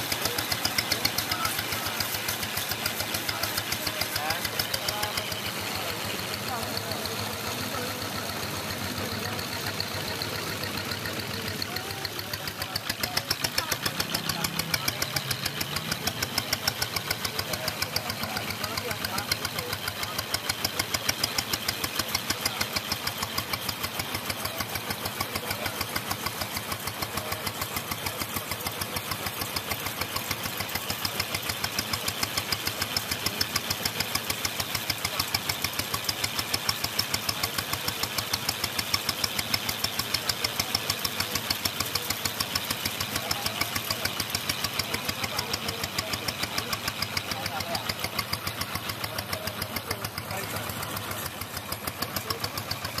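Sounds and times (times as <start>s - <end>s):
small boat engine running: 0.0s - 53.0s.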